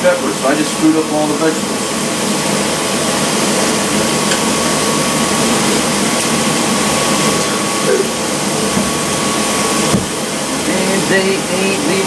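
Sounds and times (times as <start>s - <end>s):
electric fan running: 0.0s - 12.0s
faint steady whine: 0.0s - 12.0s.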